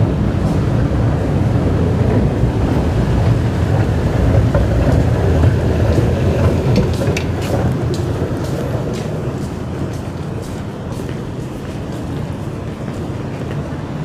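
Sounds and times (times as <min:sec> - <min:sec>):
low rumble in station: 0:00.0 - 0:14.0.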